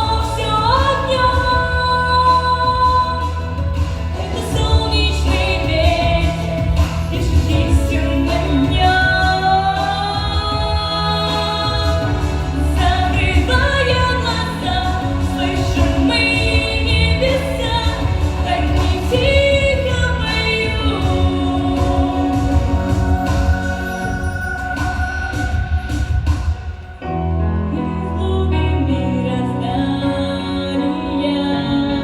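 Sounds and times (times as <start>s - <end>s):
instrumental backing with bass: 0.0s - 32.0s.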